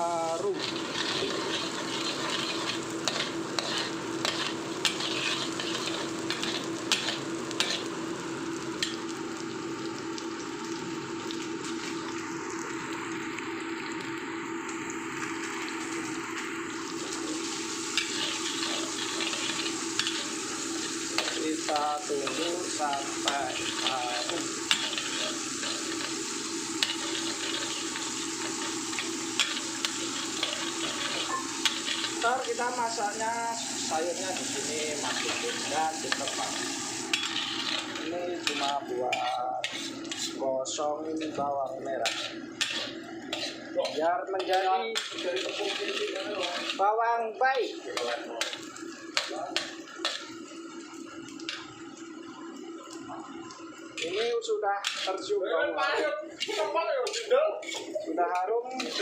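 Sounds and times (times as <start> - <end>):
garlic sizzling in hot oil: 0.0 - 59.0.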